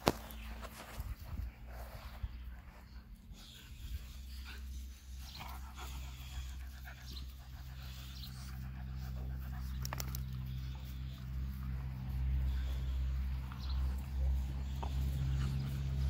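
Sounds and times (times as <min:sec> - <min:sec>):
dogs panting: 0:00.1 - 0:16.0.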